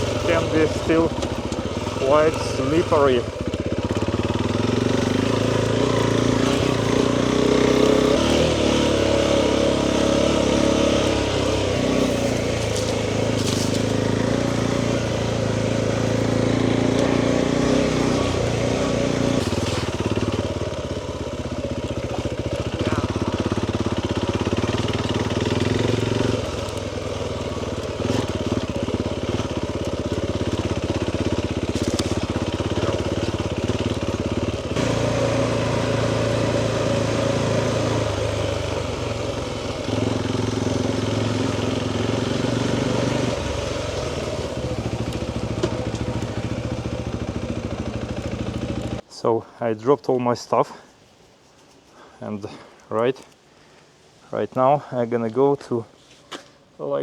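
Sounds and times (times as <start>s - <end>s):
motorcycle engine running at low speed: 0.0s - 49.1s.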